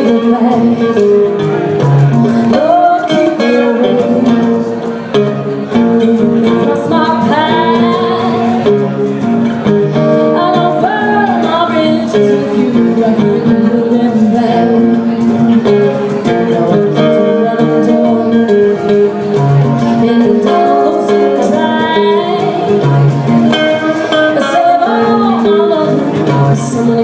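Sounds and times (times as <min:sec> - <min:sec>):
acoustic guitars playing blues-rock: 0:00.0 - 0:27.0.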